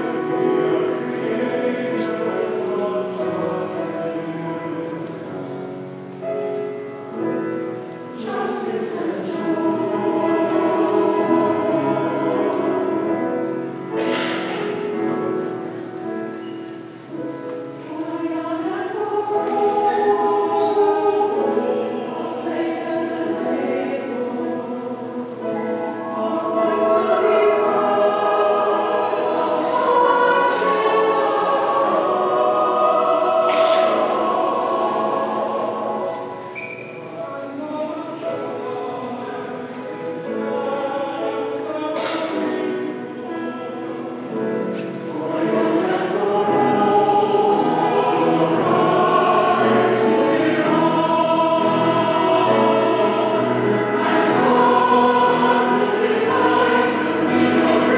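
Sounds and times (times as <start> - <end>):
choir singing held chords: 0.0 - 57.9.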